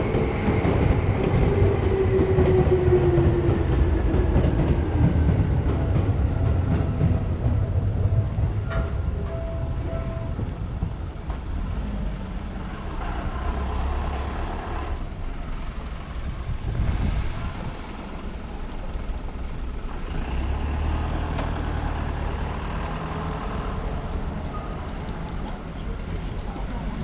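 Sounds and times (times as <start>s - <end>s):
bus engine rumbling: 0.0s - 27.0s
street noise: 0.0s - 27.0s.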